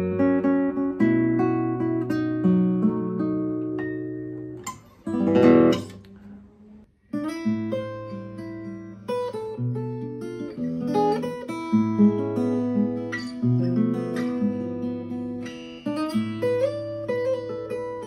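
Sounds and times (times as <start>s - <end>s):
fingerpicked acoustic guitar: 0.0s - 18.0s.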